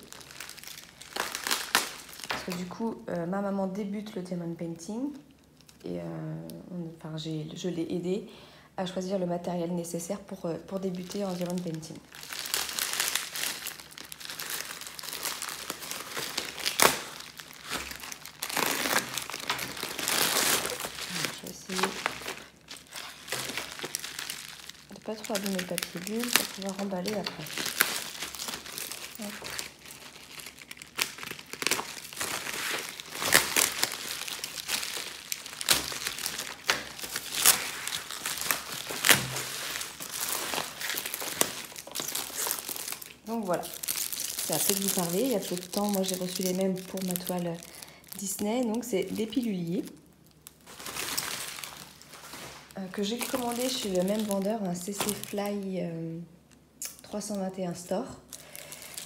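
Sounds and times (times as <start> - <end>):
plastic bag crinkling: 0.0 - 2.8, 10.6 - 57.3, 58.2 - 59.0
bubble wrap crackling: 0.0 - 6.6, 10.0 - 59.0.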